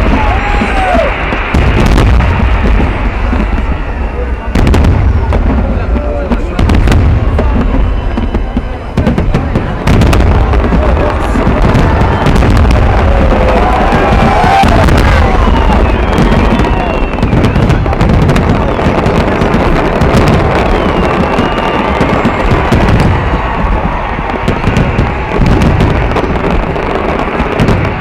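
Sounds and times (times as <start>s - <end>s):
firework crackling: 0.0s - 28.0s
firework shells booming: 0.0s - 28.0s.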